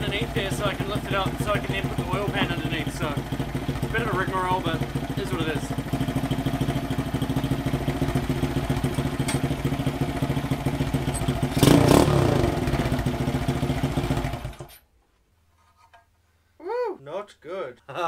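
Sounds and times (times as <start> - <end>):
small motorcycle engine idling: 0.0 - 14.7.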